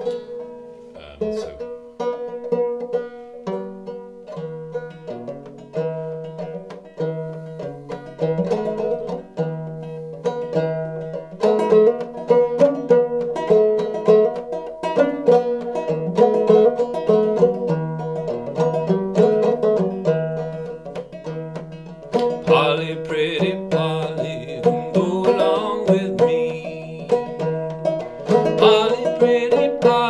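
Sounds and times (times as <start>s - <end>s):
banjo plucked notes: 0.0s - 30.0s.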